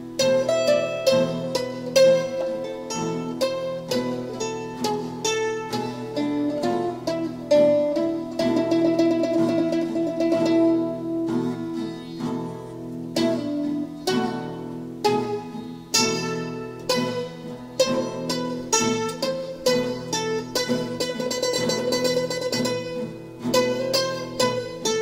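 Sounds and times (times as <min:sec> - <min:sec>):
plucked string instrument music: 0:00.0 - 0:25.0.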